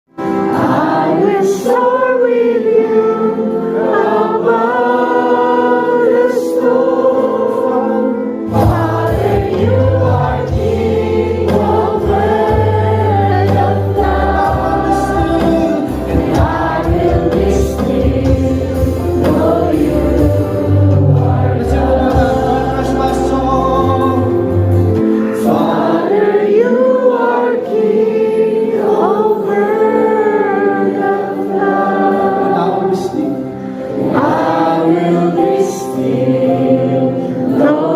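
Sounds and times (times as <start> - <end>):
group singing in harmony: 0.2 - 37.9.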